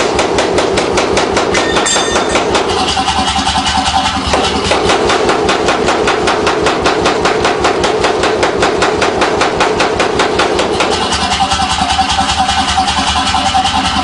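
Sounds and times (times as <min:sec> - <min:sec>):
power hammer striking hot steel: 0:00.0 - 0:12.8.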